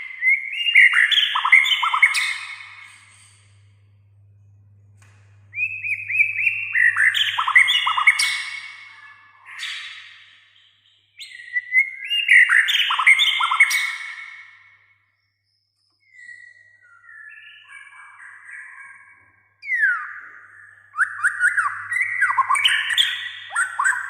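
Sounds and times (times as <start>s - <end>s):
bird singing whistles and chatter: 0.0s - 3.5s, 5.5s - 10.2s, 10.9s - 14.5s, 16.0s - 24.0s.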